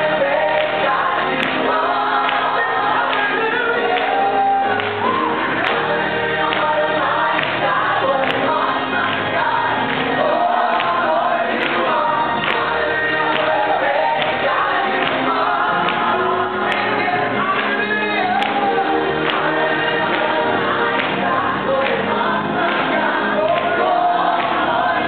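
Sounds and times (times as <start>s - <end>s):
choir singing gospel song: 0.0s - 25.0s
musical accompaniment with beat: 0.0s - 25.0s.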